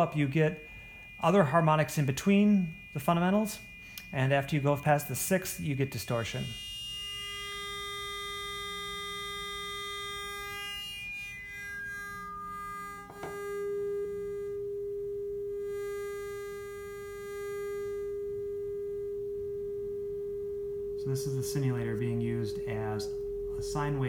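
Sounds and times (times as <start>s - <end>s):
electronic tone: 0.0s - 24.0s.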